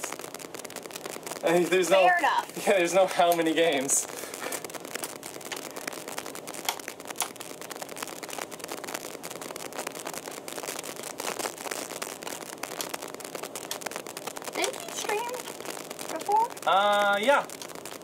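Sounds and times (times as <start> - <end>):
small irregular clicks: 2.2 - 18.0.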